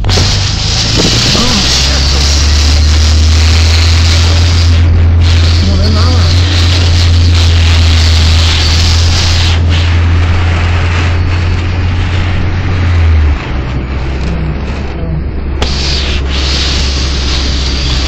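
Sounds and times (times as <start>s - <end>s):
loud low hum: 0.0s - 18.0s
rain and wind rushing: 0.0s - 18.0s.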